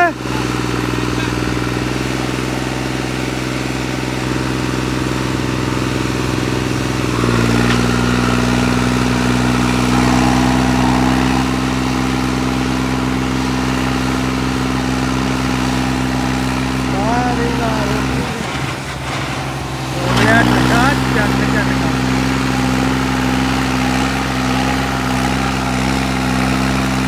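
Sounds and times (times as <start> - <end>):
diesel engines running under load: 0.0 - 27.0
engine revving higher: 0.0 - 27.0.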